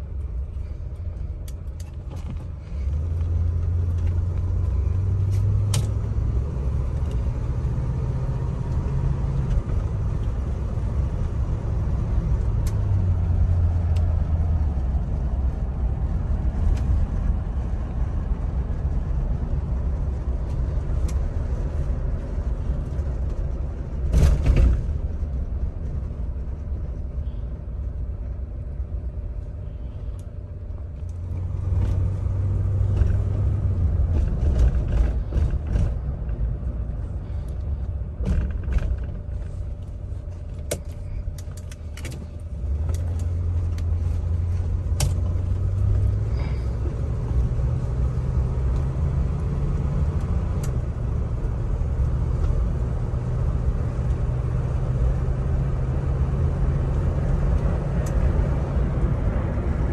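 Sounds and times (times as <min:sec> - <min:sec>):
car engine low rumble: 0:00.0 - 0:59.9
road noise: 0:00.0 - 0:59.9.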